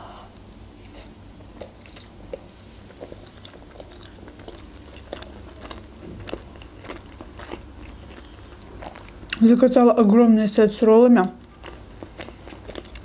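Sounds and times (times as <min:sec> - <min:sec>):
close chewing of food: 0:00.8 - 0:09.9, 0:10.7 - 0:13.0.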